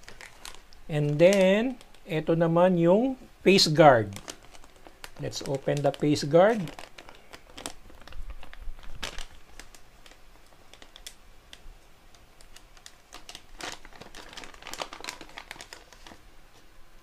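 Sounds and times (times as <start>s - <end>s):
plastic bag crinkling: 0.0s - 2.4s, 3.5s - 16.3s.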